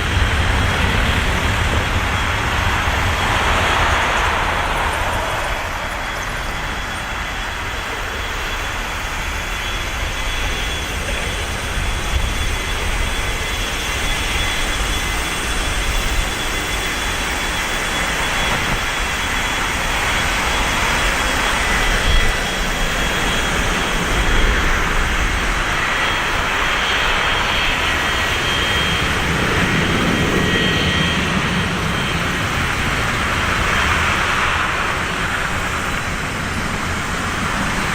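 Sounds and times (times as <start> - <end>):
high engine whine: 0.0 - 37.9
jet engines running: 0.0 - 37.9.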